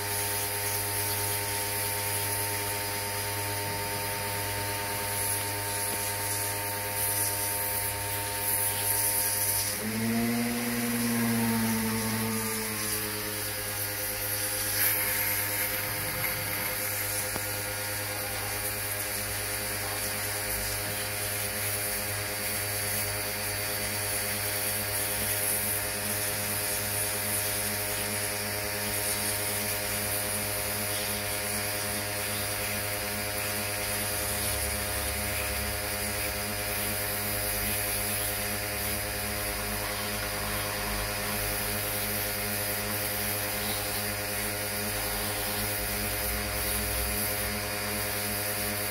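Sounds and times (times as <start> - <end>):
pressure washer spraying water: 0.0 - 23.1, 23.7 - 48.9.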